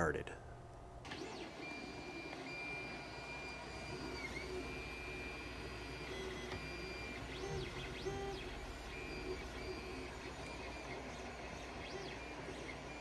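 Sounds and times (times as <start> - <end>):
stepper motors whining: 1.1 - 13.0.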